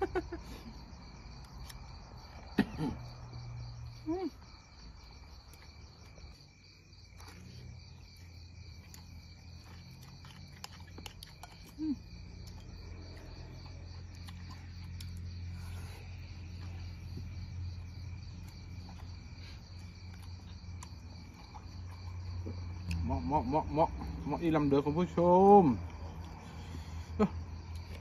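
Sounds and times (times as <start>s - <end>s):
crickets chirring: 0.0s - 28.0s.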